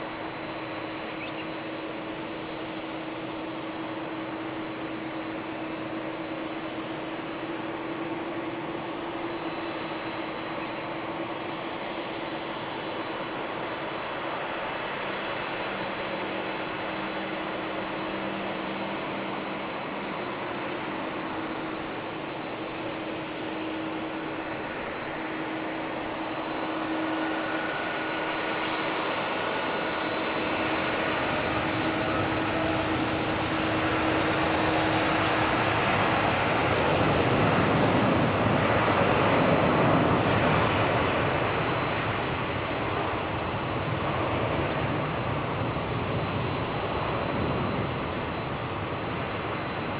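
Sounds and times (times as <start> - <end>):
jet engine roar with whine: 0.0 - 49.9.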